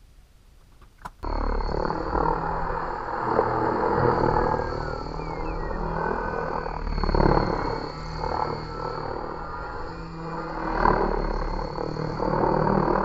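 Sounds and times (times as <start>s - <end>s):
wind rumbling on microphone: 0.8s - 13.0s
model plane motor: 1.2s - 13.0s.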